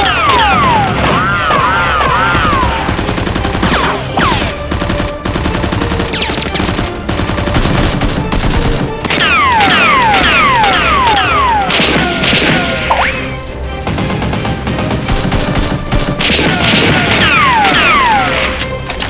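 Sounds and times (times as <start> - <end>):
automatic gunfire sound effects: 2.2 - 12.9, 13.9 - 18.6.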